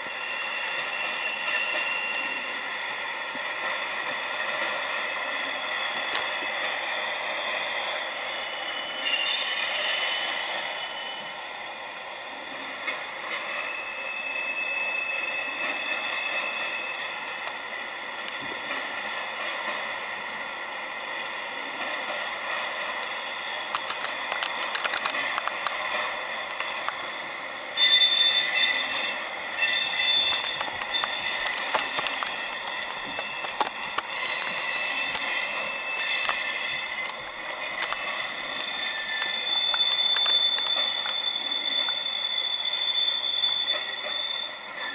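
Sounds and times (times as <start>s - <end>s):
freight train rolling: 0.0s - 44.9s
train wheels squealing: 0.0s - 44.9s.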